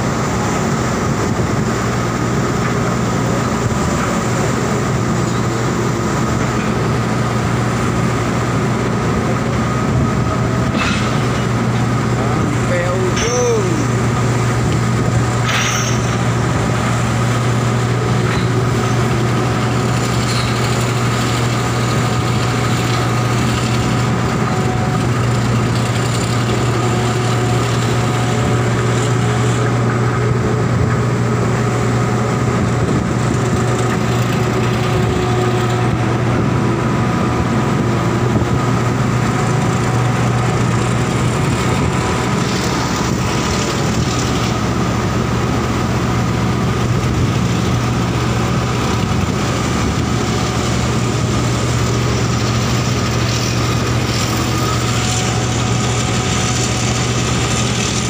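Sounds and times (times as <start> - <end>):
heavy diesel machinery droning: 0.0 - 58.0.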